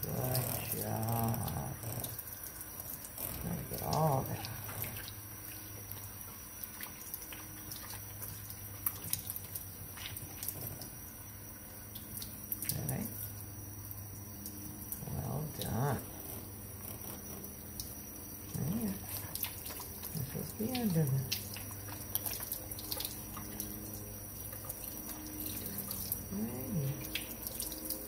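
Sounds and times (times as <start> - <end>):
water spraying: 0.0 - 11.2, 14.4 - 28.0
water splashing and dripping: 0.0 - 28.0.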